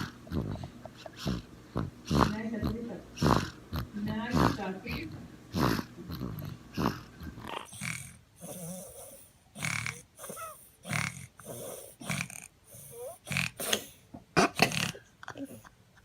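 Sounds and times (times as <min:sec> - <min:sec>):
baby snoring: 0:00.0 - 0:15.6.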